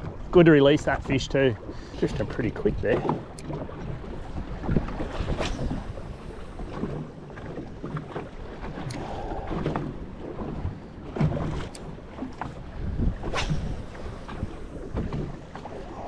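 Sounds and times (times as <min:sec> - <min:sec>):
water lapping against hull: 0:00.0 - 0:16.0
wind buffeting microphone: 0:00.0 - 0:16.0.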